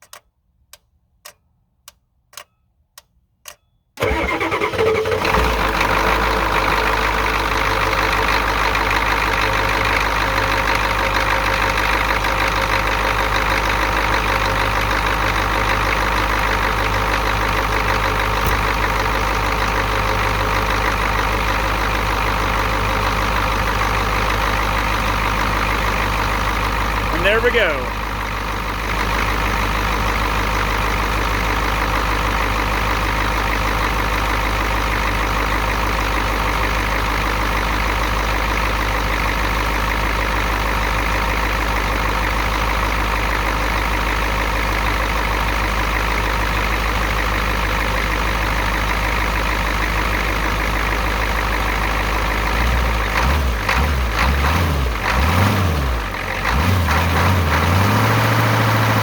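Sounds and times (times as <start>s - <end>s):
diesel engine idling: 4.0s - 59.0s.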